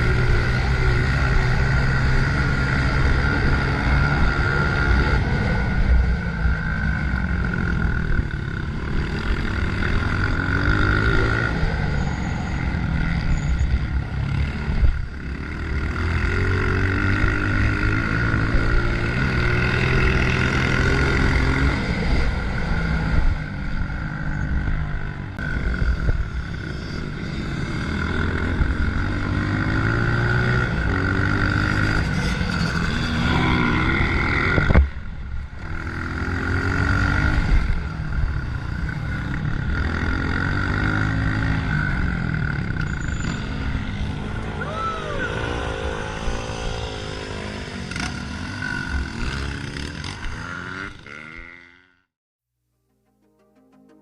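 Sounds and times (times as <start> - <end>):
dirt bike engine revving: 0.0 - 52.1.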